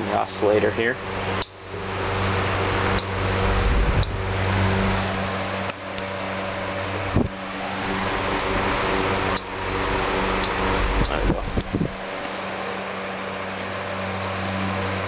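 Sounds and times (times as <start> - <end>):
fan motor hum: 0.0 - 15.0
rush of air from fan blades: 0.0 - 15.0.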